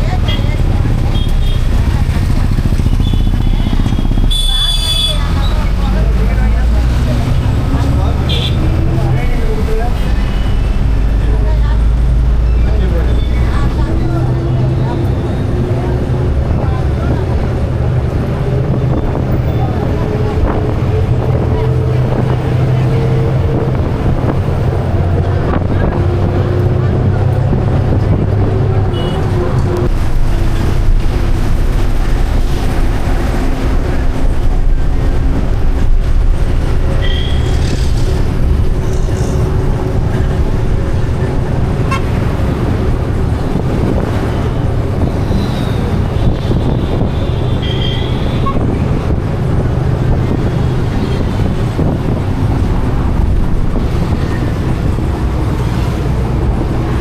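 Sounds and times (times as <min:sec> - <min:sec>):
vehicle engine rumble: 0:00.0 - 0:57.0.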